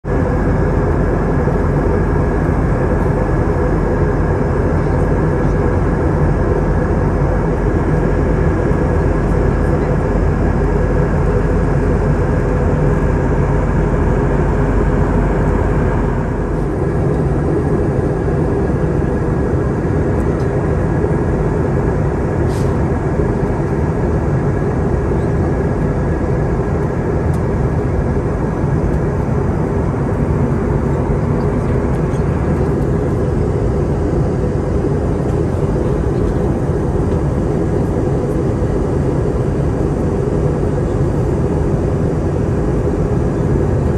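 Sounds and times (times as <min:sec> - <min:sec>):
airliner cabin engine noise: 0:00.0 - 0:43.9.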